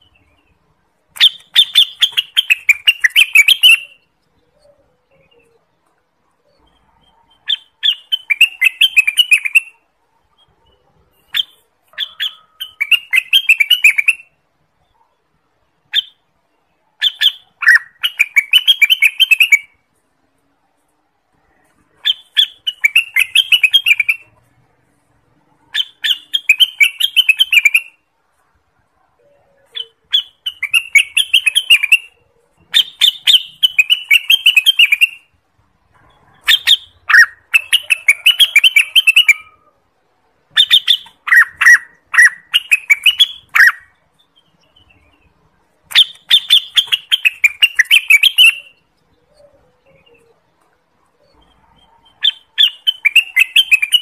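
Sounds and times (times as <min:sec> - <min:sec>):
bird chattering song: 0:00.0 - 0:19.8, 0:21.5 - 0:24.5, 0:25.5 - 0:28.0, 0:29.2 - 0:35.4, 0:36.0 - 0:39.6, 0:40.5 - 0:54.0.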